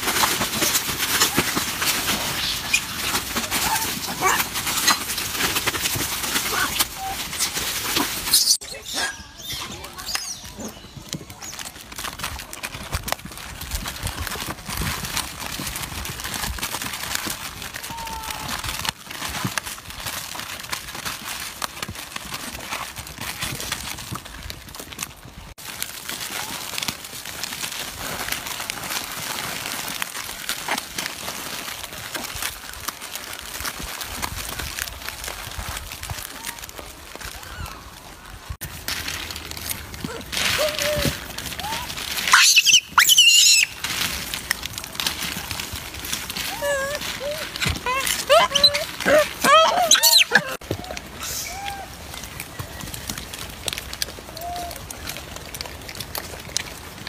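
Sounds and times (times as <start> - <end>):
outdoor background noise: 0.0 - 57.0
plastic packets crinkling: 0.0 - 57.0.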